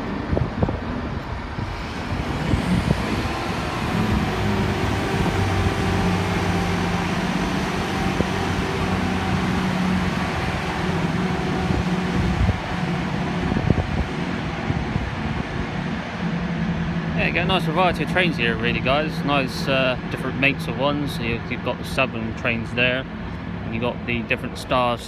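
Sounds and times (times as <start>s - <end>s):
diesel train engines droning: 0.0s - 25.0s.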